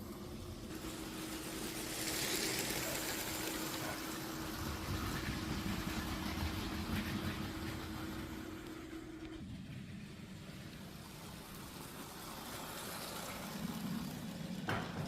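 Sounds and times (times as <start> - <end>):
toy train motor whirring: 0.0 - 9.1, 10.6 - 14.6
wheels rattling over track joints: 0.0 - 15.0.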